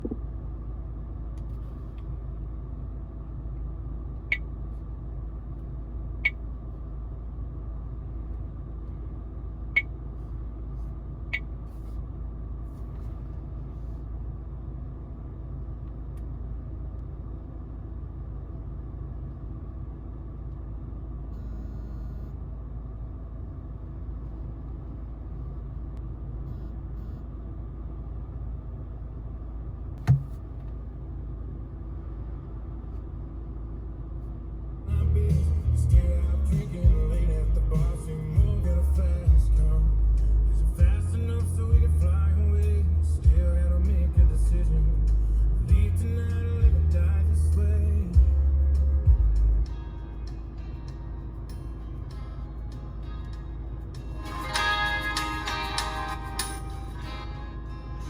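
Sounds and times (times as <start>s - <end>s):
car cabin rumble: 0.0s - 58.0s.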